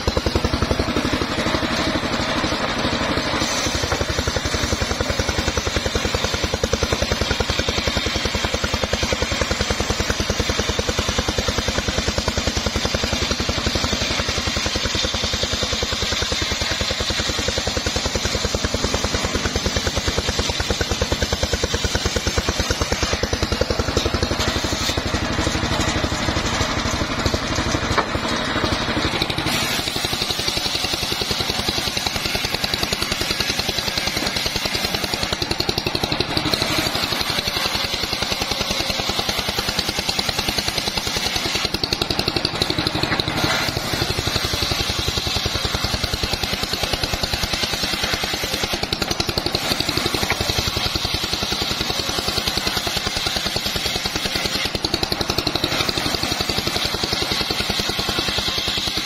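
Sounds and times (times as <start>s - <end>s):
circular saw cutting wood: 0.0s - 59.0s
engine firing: 0.0s - 59.0s.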